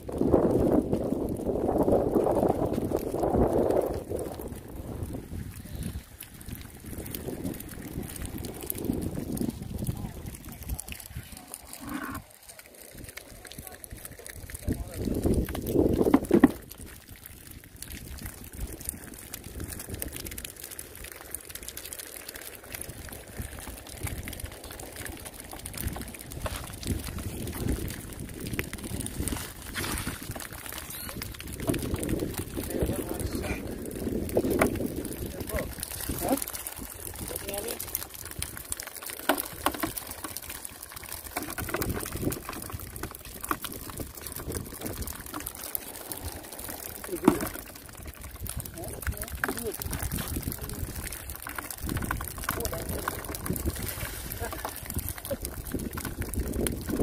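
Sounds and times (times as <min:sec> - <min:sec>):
fish flapping on wet concrete: 0:00.0 - 0:57.0
water trickling and dripping: 0:00.0 - 0:57.0
light patter of small ticks: 0:00.1 - 0:57.0.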